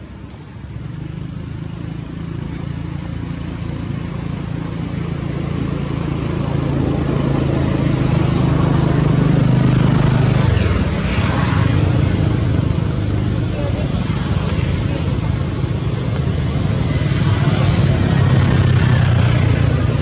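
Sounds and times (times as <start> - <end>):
engine running: 1.2 - 20.0.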